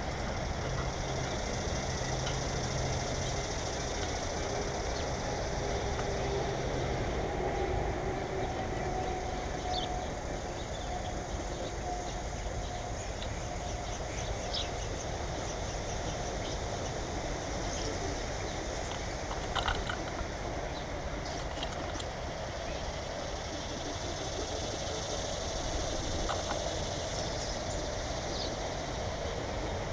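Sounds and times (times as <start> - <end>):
vehicle engine rumble: 0.0 - 29.9.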